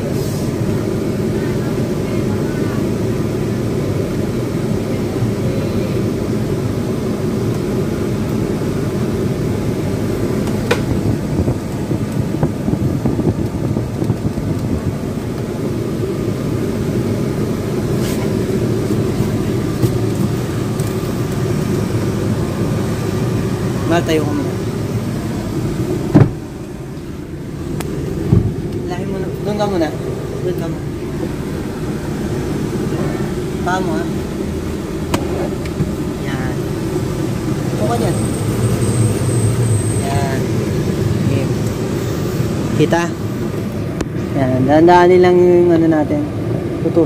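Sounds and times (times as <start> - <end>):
car low drone: 0.0 - 47.0.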